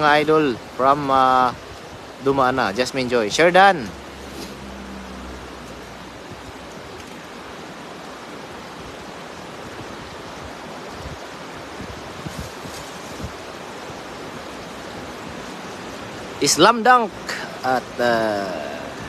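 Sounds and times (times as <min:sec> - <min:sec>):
rushing water background noise: 0:00.0 - 0:19.0.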